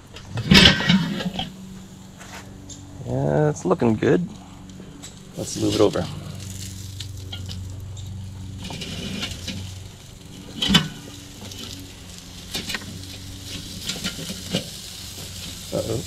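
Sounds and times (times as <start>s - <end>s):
meat sizzling on charcoal: 0.0s - 16.0s
steady low hum: 0.0s - 16.0s.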